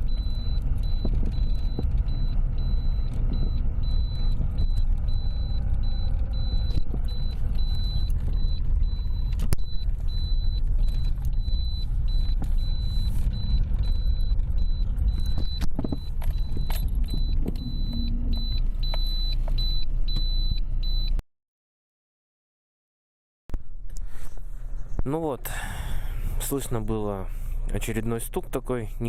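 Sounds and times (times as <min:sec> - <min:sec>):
road rumble: 0:00.0 - 0:21.2, 0:23.5 - 0:29.0.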